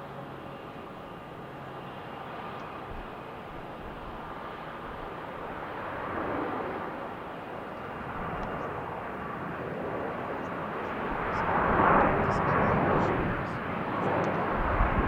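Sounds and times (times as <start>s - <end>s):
airplane engine rushing: 0.0s - 15.0s.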